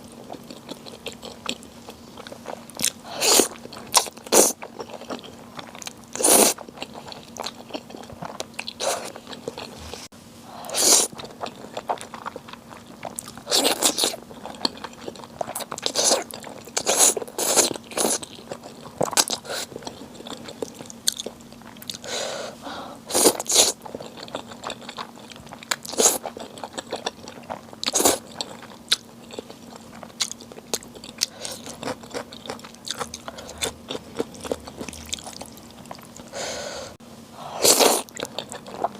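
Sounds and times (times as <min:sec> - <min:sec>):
person chewing: 0:00.0 - 0:10.1, 0:10.7 - 0:38.9.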